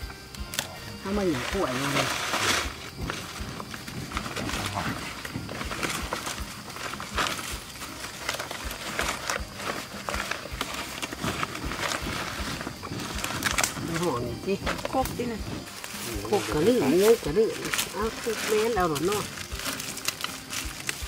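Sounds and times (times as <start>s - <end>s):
rustling: 0.5s - 21.0s.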